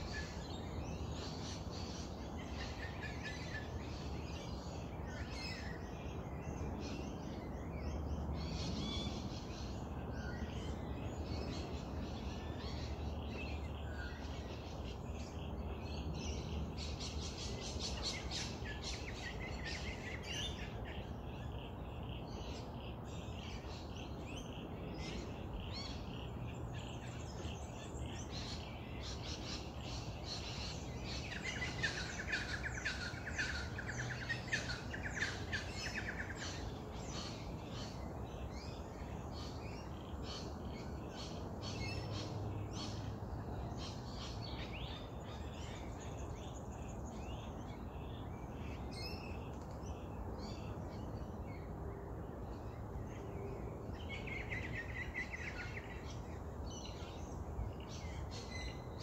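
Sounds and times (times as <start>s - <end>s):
birds chirping: 0.0s - 59.0s
low background noise: 0.0s - 59.0s.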